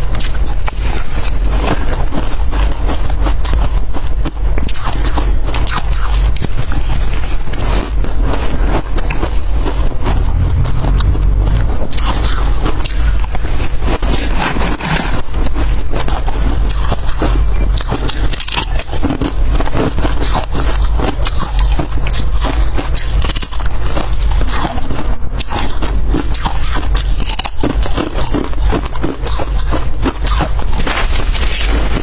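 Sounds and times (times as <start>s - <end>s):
frost crunching when chewed: 0.1s - 11.0s, 14.3s - 32.0s.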